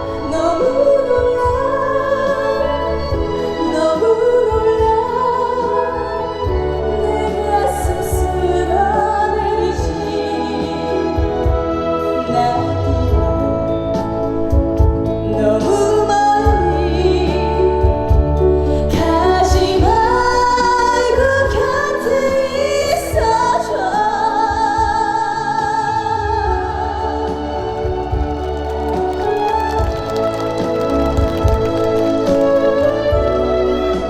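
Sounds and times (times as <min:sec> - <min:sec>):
backing track with steady bass: 0:00.0 - 0:34.0
woman singing: 0:00.0 - 0:34.0.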